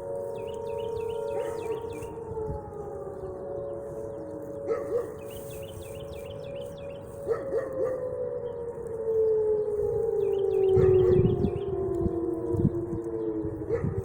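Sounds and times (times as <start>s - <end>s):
warning sirens steady tone: 0.0s - 14.0s.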